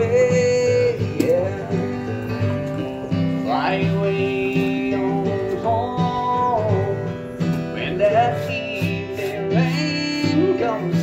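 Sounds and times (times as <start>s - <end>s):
country music: 0.0s - 11.0s
strummed acoustic guitar: 0.0s - 11.0s.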